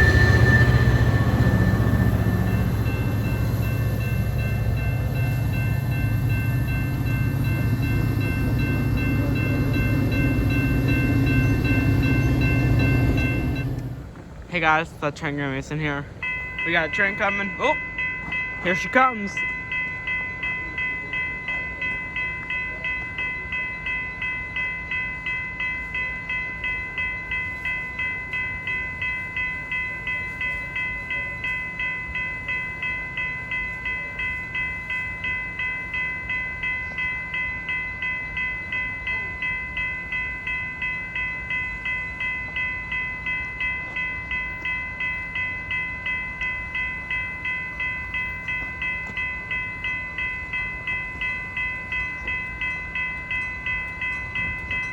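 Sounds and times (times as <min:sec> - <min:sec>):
railroad crossing bell ringing: 0:00.0 - 0:54.9.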